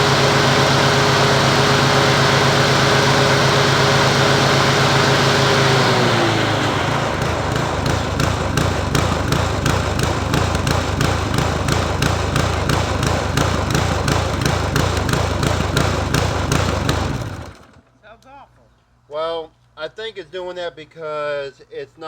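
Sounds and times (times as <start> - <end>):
lawn mower engine running: 0.0 - 17.9.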